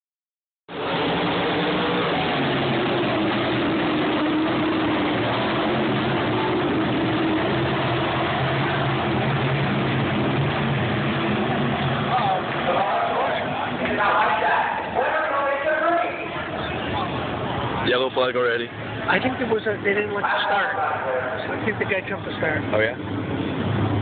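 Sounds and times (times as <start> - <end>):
race car engines droning: 0.7 - 24.0.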